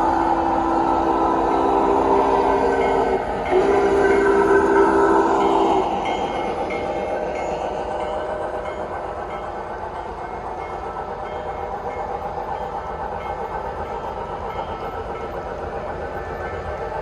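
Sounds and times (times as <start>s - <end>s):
model train wheels rumbling on track: 0.0s - 17.0s.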